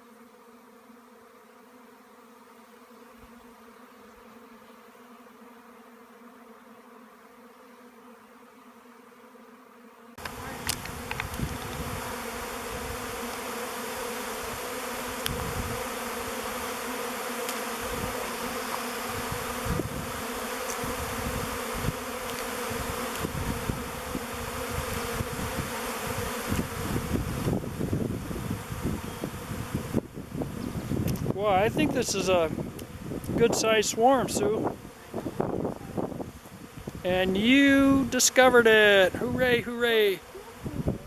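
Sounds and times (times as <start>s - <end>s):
bee swarm buzzing: 0.0s - 41.0s.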